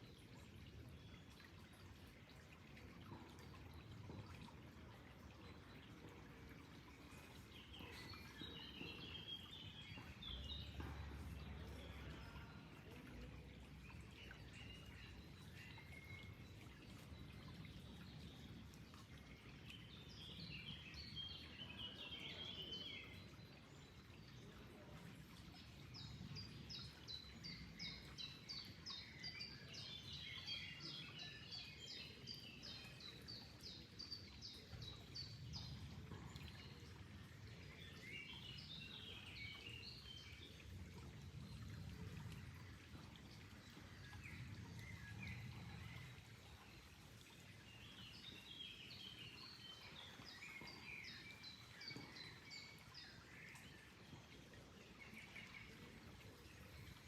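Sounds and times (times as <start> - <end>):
flowing water: 0.0 - 57.0
songbirds chirping: 0.0 - 57.0.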